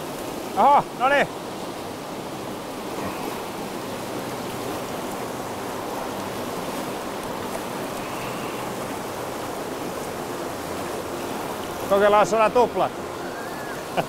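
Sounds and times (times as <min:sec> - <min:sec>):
water rushing through stream rapid: 0:00.0 - 0:14.0.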